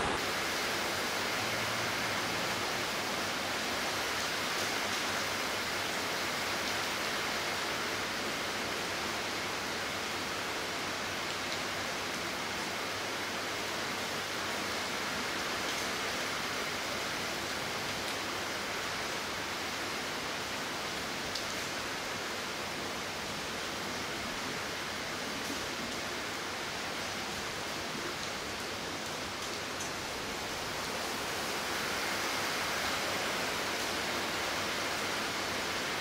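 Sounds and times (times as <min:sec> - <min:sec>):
torrential rain: 0:00.0 - 0:36.0.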